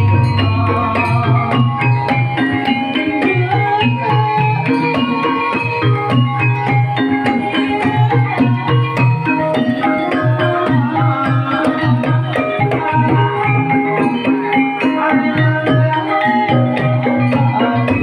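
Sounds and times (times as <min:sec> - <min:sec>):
gamelan melody: 0:00.0 - 0:18.0
hand drum pattern: 0:00.0 - 0:18.0.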